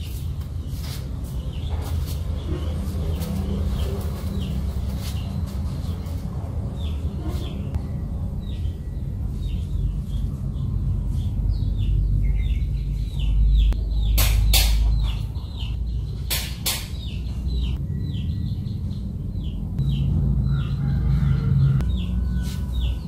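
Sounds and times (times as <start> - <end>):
small birds chirping: 0.0 - 23.0
steady low rumble: 0.2 - 23.0.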